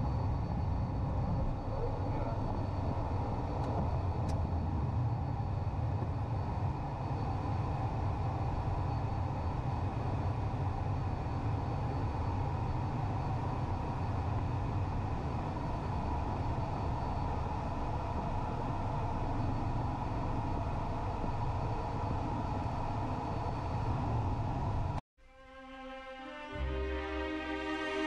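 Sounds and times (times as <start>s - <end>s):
high-pitched engine whine: 0.0s - 25.0s
jet engines rumbling: 0.0s - 25.0s.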